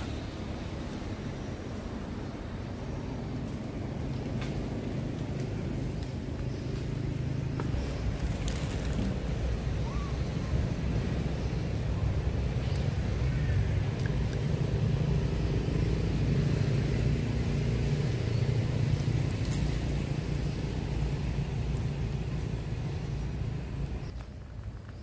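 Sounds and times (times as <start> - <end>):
vehicle engine rumble passing: 0.0 - 25.0.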